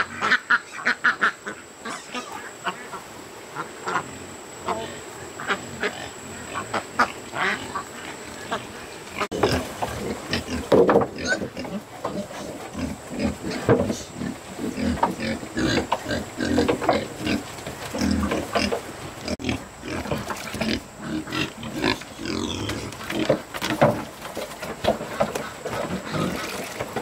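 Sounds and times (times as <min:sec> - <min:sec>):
pigs grunting and eating: 0:00.0 - 0:27.0.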